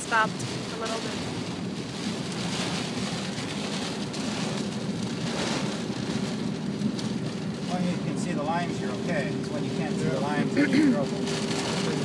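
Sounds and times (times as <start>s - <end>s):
heavy rain on car roof: 0.0s - 12.0s
road and engine rumble: 0.0s - 12.0s.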